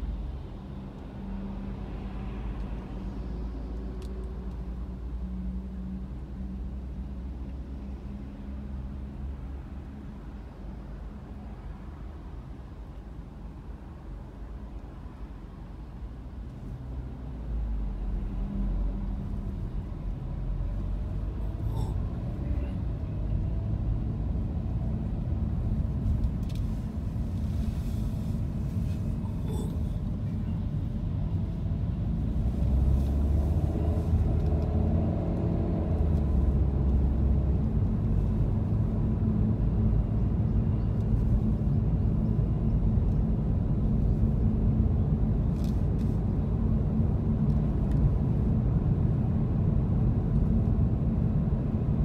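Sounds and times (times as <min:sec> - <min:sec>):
car engine and road rumble: 0:00.0 - 0:52.0.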